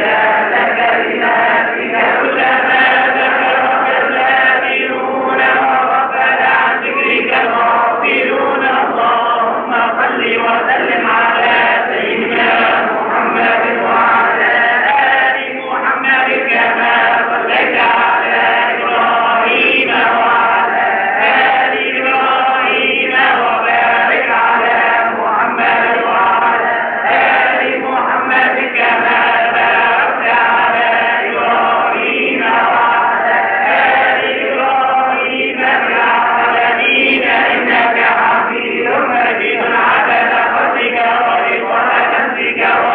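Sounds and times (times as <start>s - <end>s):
men chanting together: 0.0s - 42.9s.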